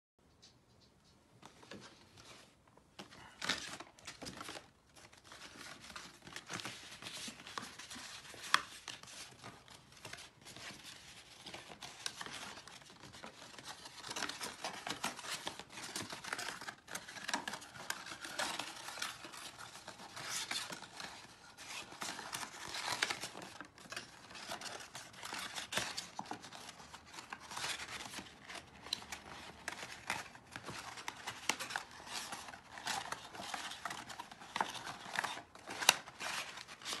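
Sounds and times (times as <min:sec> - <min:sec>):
card rustling and scraping: 0:01.4 - 0:37.0.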